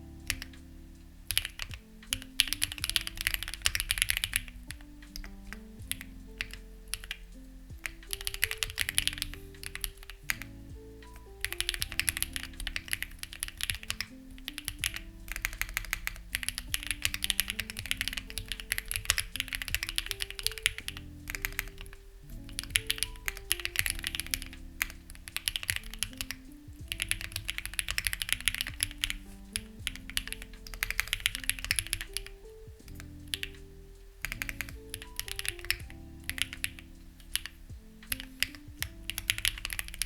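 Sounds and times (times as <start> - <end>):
soft background music: 0.0 - 40.0
fast typing on mechanical keyboard: 1.2 - 7.2, 7.8 - 33.6, 34.2 - 40.0.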